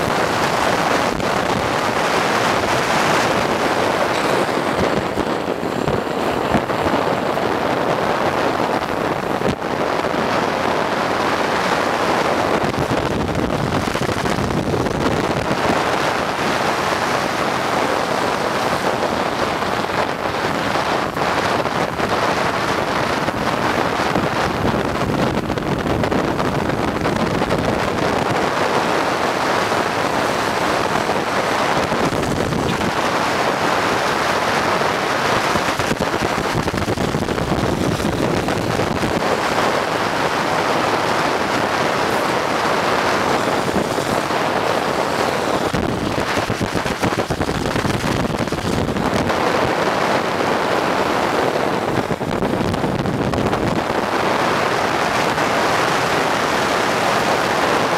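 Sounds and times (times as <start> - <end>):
road noise: 0.0 - 57.9
wind buffeting microphone: 0.0 - 57.9.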